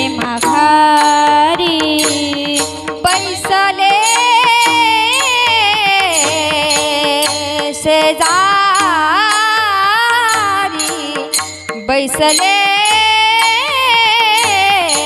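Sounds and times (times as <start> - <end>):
hand drum strokes: 0.0 - 15.0.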